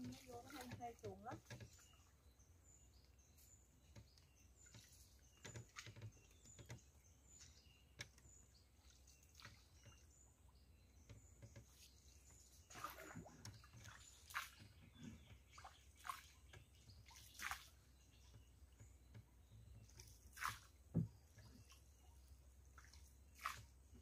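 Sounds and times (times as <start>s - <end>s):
faint high bird chirps: 0.1s - 24.0s.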